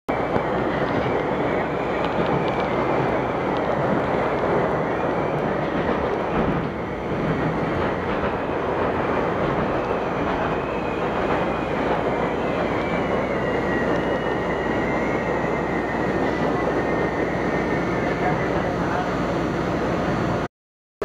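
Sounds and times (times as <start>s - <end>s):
train wheels rumbling on rails: 0.1s - 20.5s.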